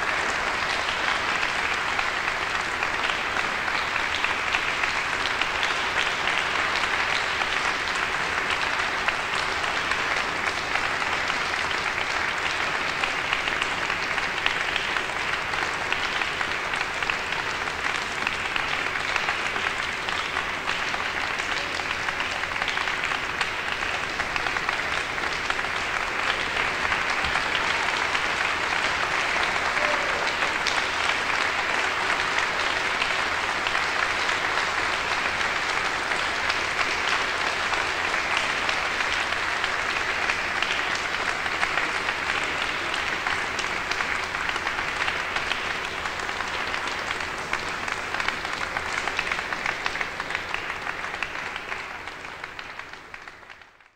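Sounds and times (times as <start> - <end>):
audience applauding: 0.0 - 53.9.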